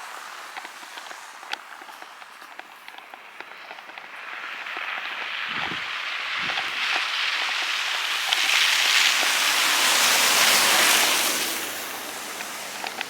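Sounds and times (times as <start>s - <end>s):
footsteps crunching in snow: 0.0s - 13.0s
tyres hissing through wet snow: 0.0s - 13.0s.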